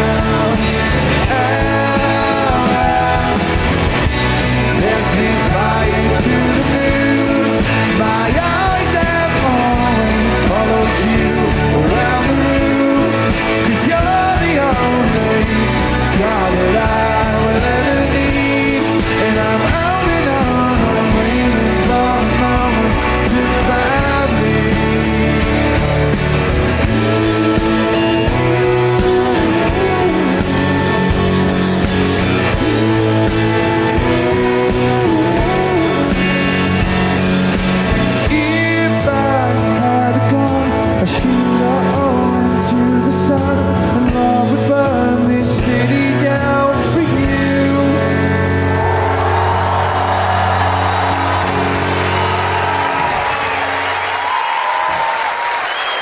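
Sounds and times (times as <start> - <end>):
sliding lead melody: 0.0 - 55.8
rock band playing live: 0.0 - 56.0.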